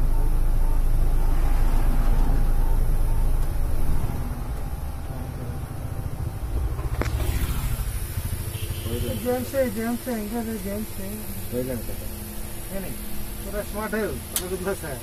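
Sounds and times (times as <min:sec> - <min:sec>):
road noise: 0:00.0 - 0:15.0
van engine rumble: 0:00.0 - 0:15.0.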